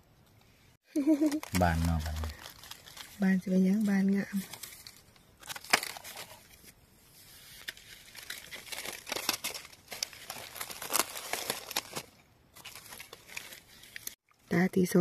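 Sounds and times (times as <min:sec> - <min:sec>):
dry leaves rustling and crackling: 0:01.0 - 0:14.2.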